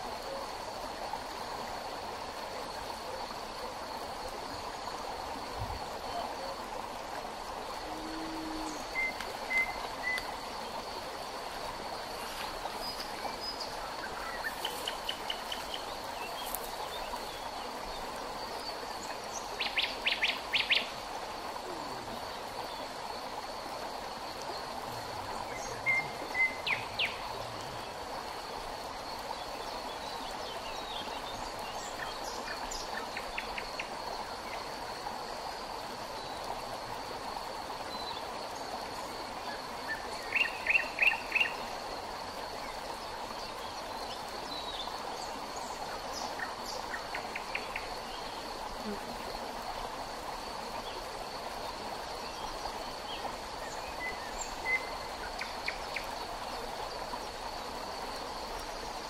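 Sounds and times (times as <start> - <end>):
river running over stones: 0.0 - 59.0.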